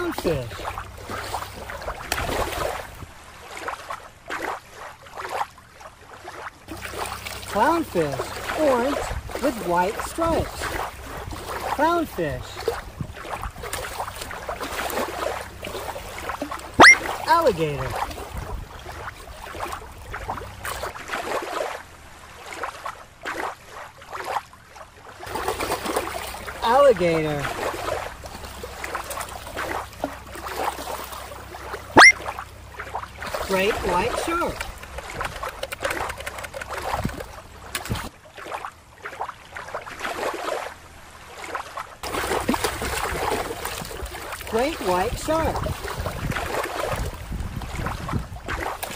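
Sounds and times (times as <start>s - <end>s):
water lapping and splashing: 0.0s - 48.9s.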